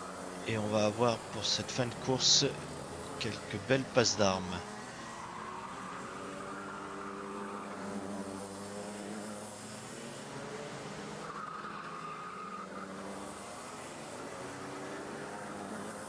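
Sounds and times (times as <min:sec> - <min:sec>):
racing kart engines droning: 0:00.0 - 0:16.0.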